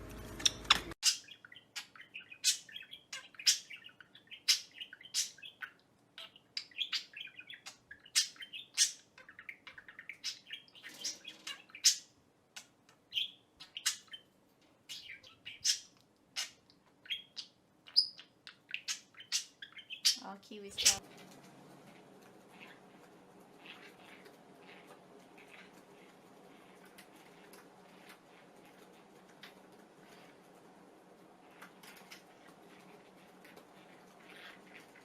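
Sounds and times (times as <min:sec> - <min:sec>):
bird chirping: 0:00.4 - 0:30.4.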